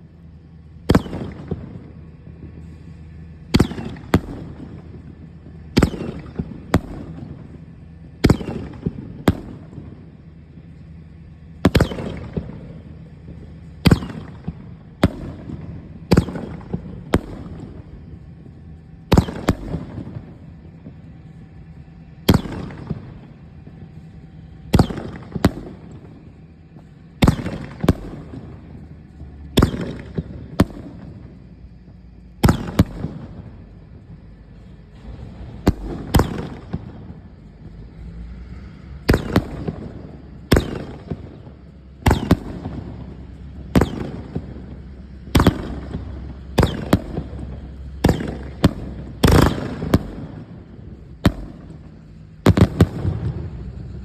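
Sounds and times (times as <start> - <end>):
crackling firework bursts: 0.0 - 54.0
fireworks bangs: 0.8 - 10.8, 11.6 - 38.0, 39.0 - 54.0.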